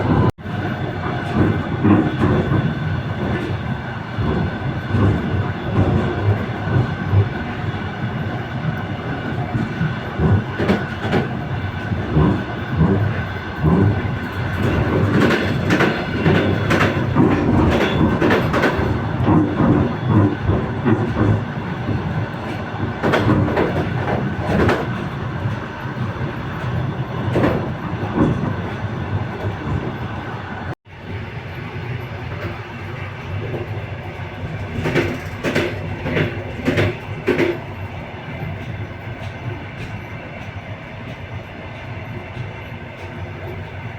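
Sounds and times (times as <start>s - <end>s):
clickety-clack over rail joints: 0.0s - 30.8s, 31.4s - 43.9s
rumble of wheels on rails: 0.0s - 43.9s.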